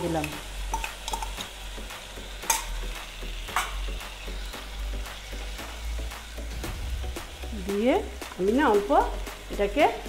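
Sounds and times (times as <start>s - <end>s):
food sizzling: 0.0s - 10.0s.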